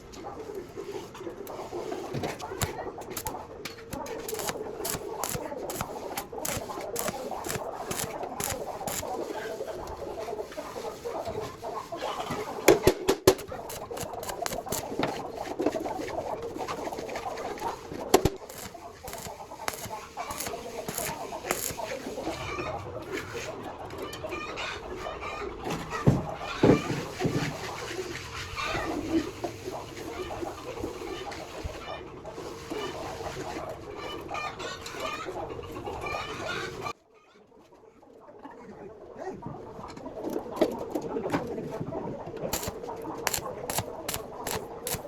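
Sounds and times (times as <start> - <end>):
chickens clucking: 0.0 - 38.8.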